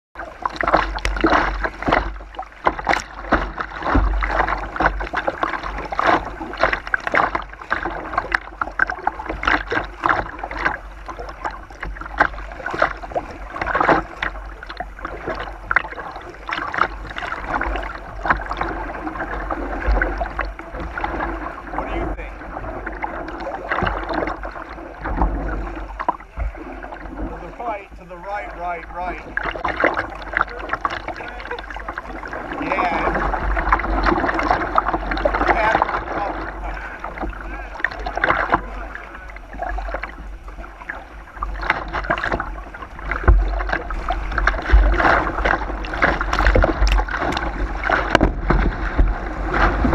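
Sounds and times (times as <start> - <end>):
water splashing against kayak hull: 0.2 - 49.9.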